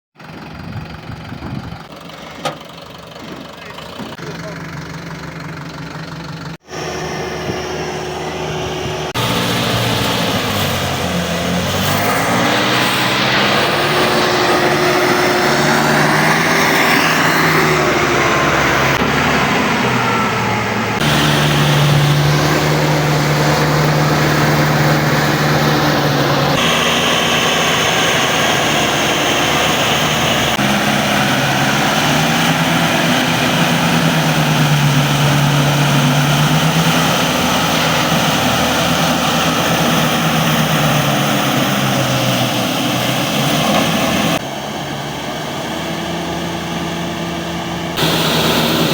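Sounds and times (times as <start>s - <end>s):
tractor diesel engine running: 0.2s - 48.9s.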